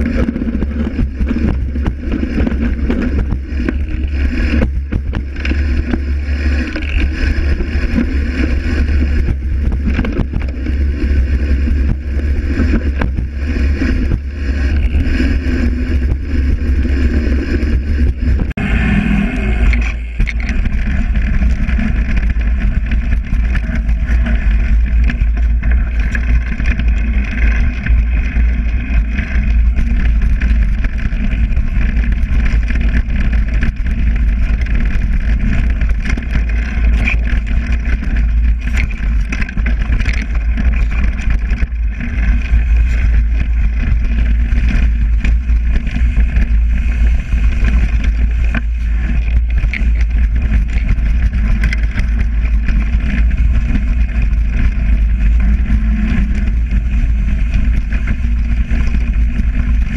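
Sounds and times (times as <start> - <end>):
bike frame rattle: 0.0 - 18.6, 19.6 - 59.9
bike tyre rumble: 0.0 - 59.9
wind buffeting microphone: 0.0 - 59.9.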